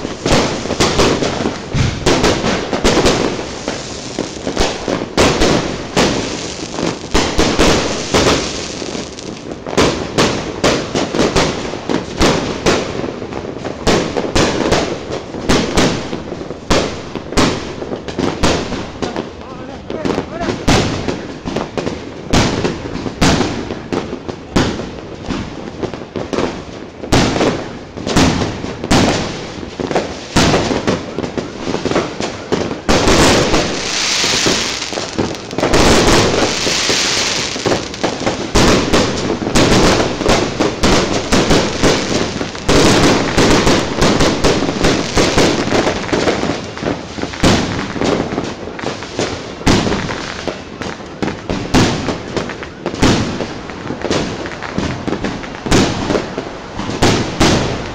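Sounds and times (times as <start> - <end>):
fireworks bangs: 0.0 - 57.9
hissing crackle of fireworks: 0.0 - 57.9.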